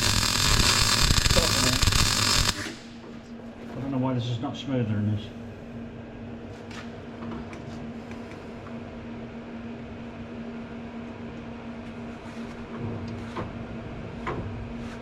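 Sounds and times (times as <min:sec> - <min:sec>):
steady machine hum: 0:00.0 - 0:12.2.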